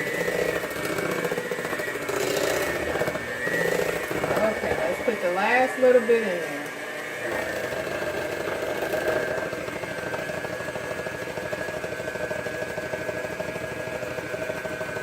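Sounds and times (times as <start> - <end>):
electric hand mixer whine: 0.0 - 15.0.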